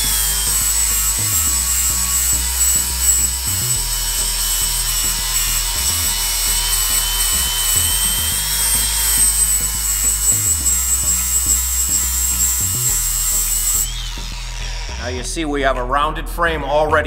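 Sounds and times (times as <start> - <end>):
angle grinder grinding metal: 0.0 - 16.0.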